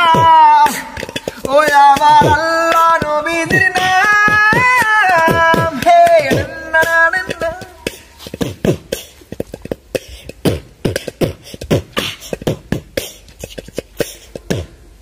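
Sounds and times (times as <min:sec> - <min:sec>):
sharp slap-like percussion hits: 0:00.0 - 0:13.2.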